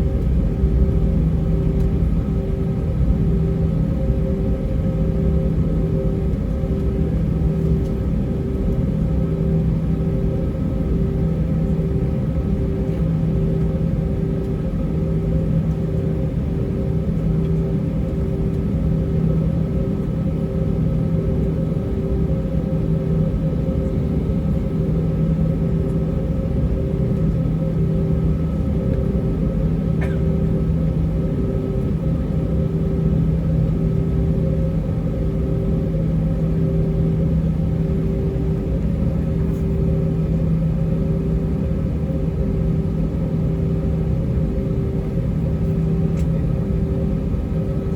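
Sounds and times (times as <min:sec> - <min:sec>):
aircraft cabin low hum: 0:00.0 - 0:47.9.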